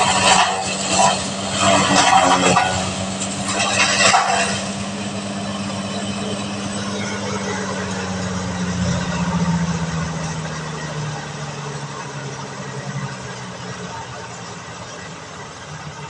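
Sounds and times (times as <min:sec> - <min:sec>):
harvester engine running: 0:00.0 - 0:16.0.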